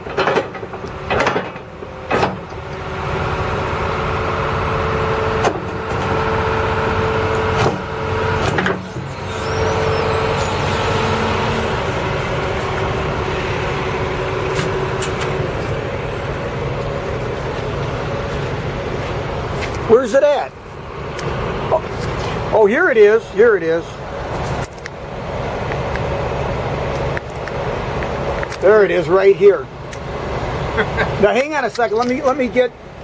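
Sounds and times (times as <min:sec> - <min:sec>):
excavator engine and hydraulics drone: 0:00.0 - 0:33.0.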